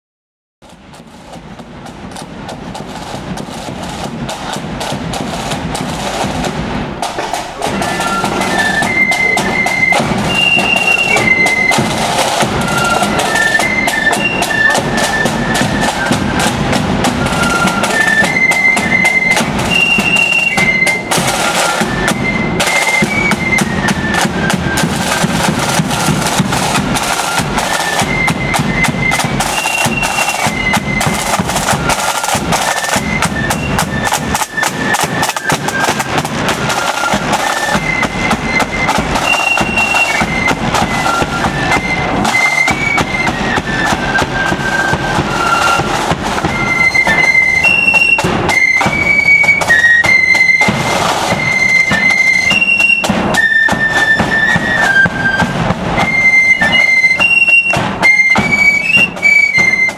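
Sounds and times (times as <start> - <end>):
side drum rolls: 0.6 - 59.9
flutes playing a melody: 1.6 - 59.9.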